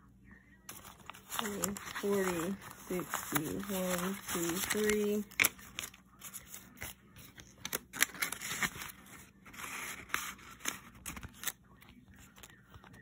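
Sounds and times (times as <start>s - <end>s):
paper rustling: 0.7s - 13.0s.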